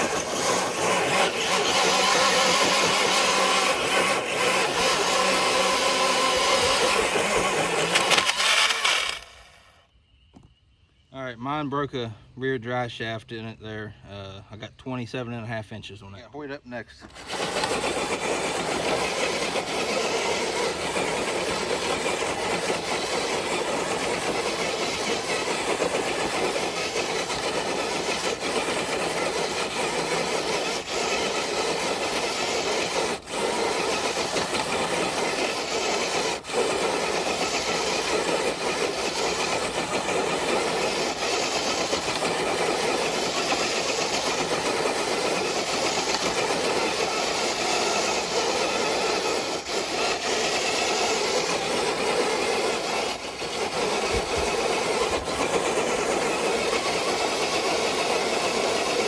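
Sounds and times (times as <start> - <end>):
sled scraping over ground: 0.0 - 9.7, 17.0 - 59.0
electric motor and gears whirring: 0.0 - 10.7, 17.0 - 59.0.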